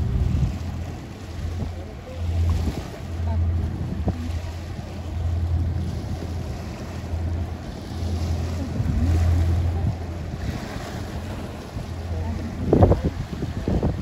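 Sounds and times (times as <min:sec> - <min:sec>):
low rumble: 0:00.0 - 0:14.0
water washing: 0:00.0 - 0:14.0
wind buffeting microphone: 0:00.0 - 0:14.0.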